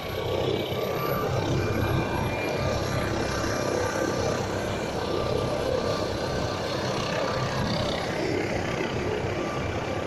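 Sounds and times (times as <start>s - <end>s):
helicopter rotor and engine rumble: 0.0s - 10.0s
thin turbine whine: 0.0s - 10.0s.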